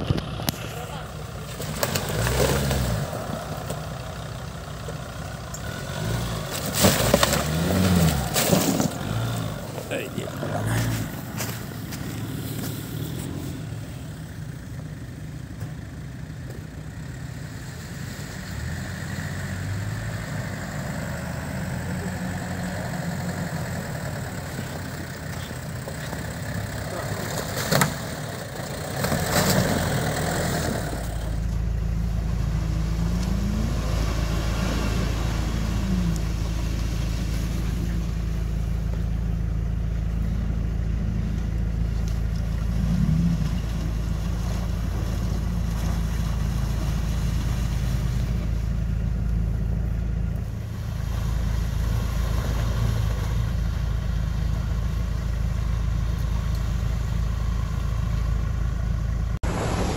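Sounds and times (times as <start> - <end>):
off-road engines revving: 0.0 - 59.9.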